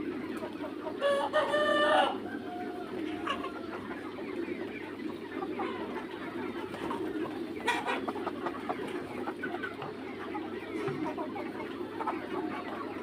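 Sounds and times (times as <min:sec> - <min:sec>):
chicks clucking and peeping: 0:00.0 - 0:13.0.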